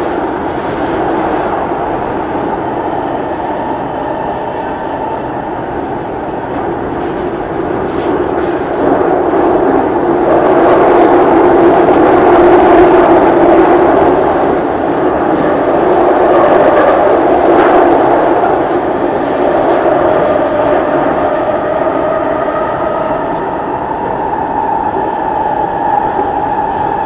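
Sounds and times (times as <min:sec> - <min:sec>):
train rumbling on rails: 0:00.0 - 0:27.0.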